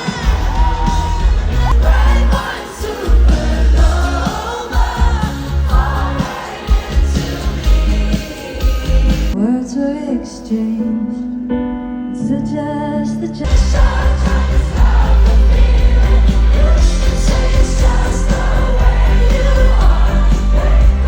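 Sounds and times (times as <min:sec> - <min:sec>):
live pop music with singing: 0:00.0 - 0:11.5, 0:12.4 - 0:21.0.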